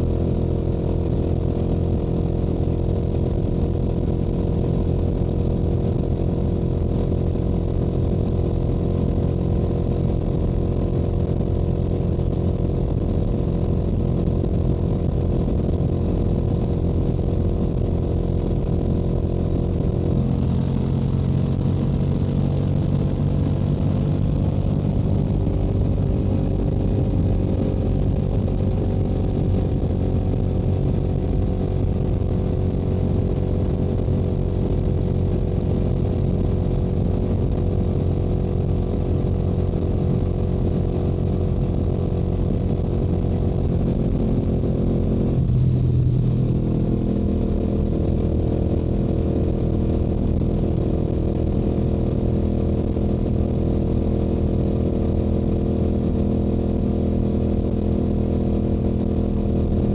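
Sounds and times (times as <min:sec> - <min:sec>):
motorcycle engine cruising: 0:00.0 - 0:59.8.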